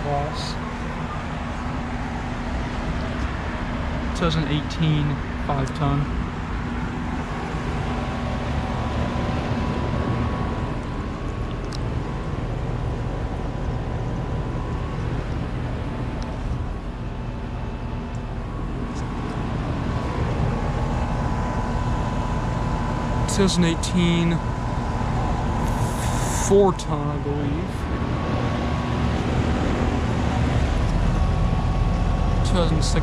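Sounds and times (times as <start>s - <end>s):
heat pump compressor and fan hum: 0.0s - 33.0s.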